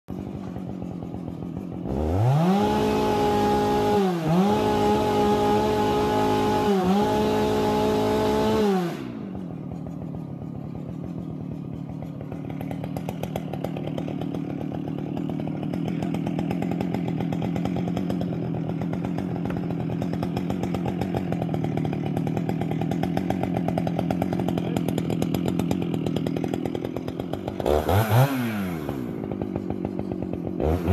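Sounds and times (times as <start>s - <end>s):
chainsaw revving and idling: 0.1s - 30.9s.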